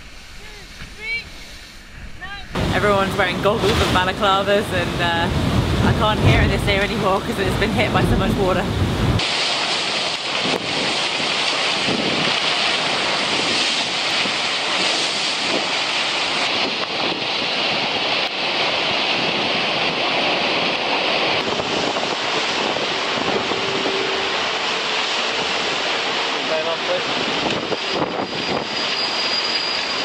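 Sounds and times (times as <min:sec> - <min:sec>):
wind noise on microphone: 0:00.0 - 0:26.2, 0:27.0 - 0:29.6
hiss of spray and wake: 0:00.0 - 0:30.0.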